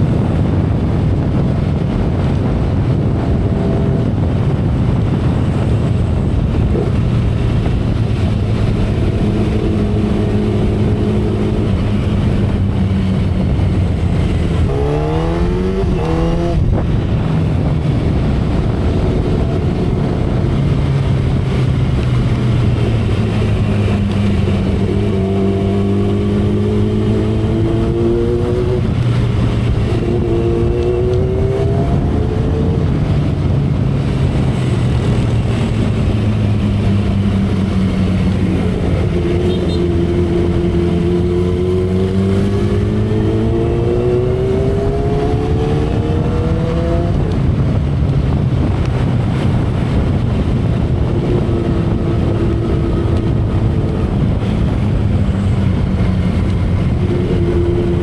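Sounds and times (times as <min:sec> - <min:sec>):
heavy wind noise: 0:00.0 - 0:58.0
motorcycle engine cruising: 0:00.0 - 0:58.0.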